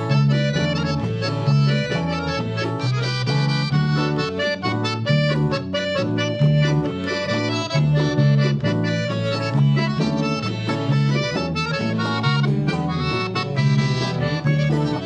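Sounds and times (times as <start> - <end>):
accordion: 0.0 - 15.0
repeating bass rhythm: 0.0 - 15.0.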